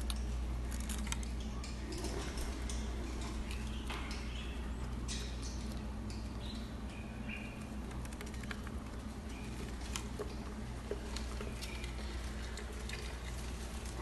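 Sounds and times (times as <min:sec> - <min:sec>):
claws and beaks scratching cage: 0:00.0 - 0:14.0.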